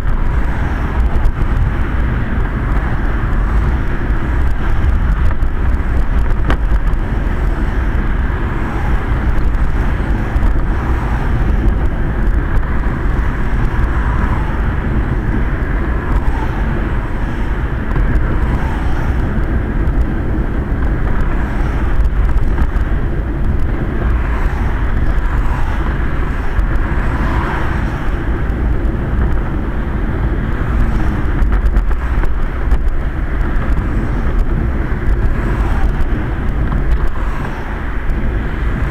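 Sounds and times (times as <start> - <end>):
vehicle rolling on wet road: 0.0 - 38.9.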